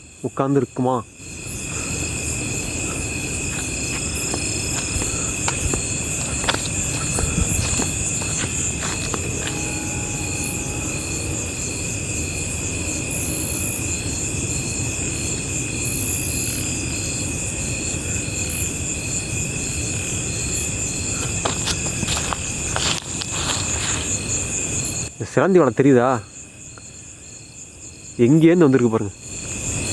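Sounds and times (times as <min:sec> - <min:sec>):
cricket chirping in pulses: 0:00.0 - 0:29.9
insects trilling: 0:00.0 - 0:29.9.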